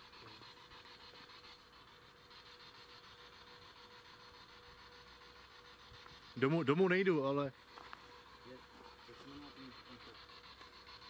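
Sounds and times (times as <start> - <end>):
faint steady hiss: 0.0 - 11.0
thin steady hum: 0.0 - 11.0.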